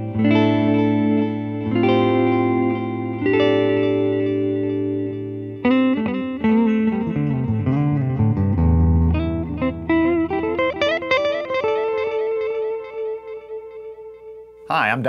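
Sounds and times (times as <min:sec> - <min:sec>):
electric guitar with delay: 0:00.0 - 0:14.6.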